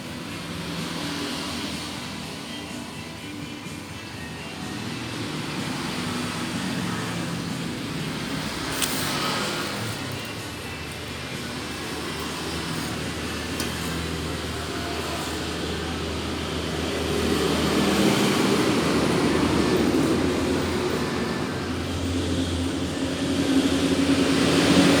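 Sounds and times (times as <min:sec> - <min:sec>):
motorcycle engine running: 0:04.0 - 0:25.0.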